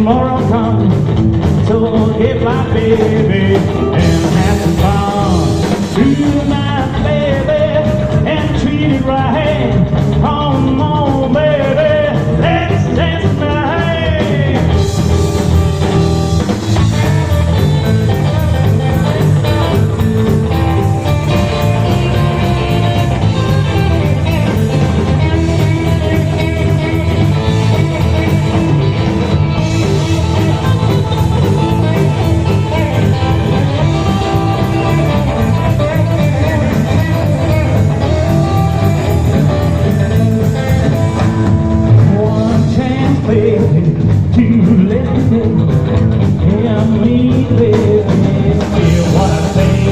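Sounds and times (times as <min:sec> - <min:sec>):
rock and roll band music: 0:00.0 - 0:49.9.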